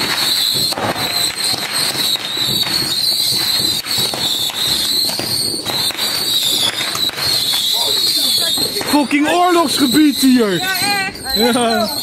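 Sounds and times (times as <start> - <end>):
firework crackling: 0.0 - 12.0
whistling rockets: 0.0 - 12.0.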